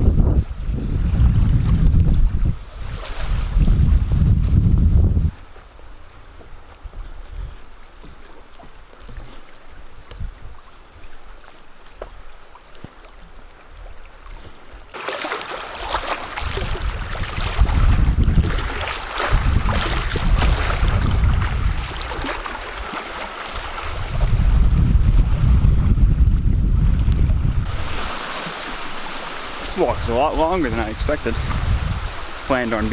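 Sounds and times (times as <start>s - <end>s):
wind buffeting microphone: 0.0s - 8.2s, 9.1s - 11.1s, 15.8s - 32.9s.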